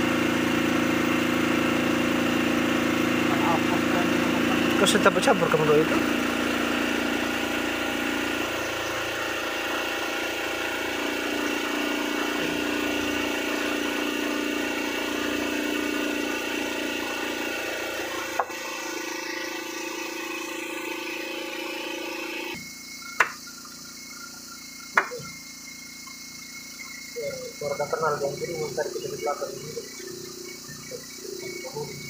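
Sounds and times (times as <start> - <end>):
small engine humming: 0.0 - 32.0.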